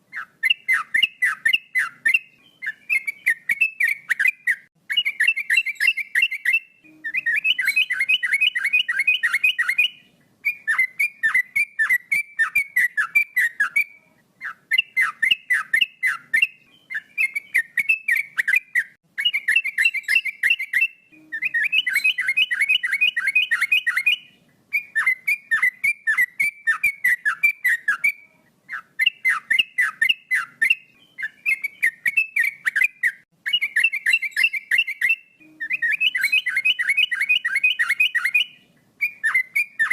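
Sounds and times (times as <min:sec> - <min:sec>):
bulbul singing whistled notes: 0:00.1 - 0:39.9.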